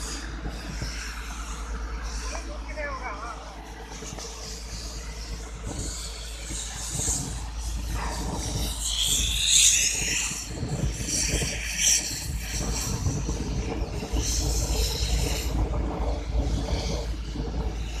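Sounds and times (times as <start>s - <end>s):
crane diesel engine running: 0.0s - 18.0s.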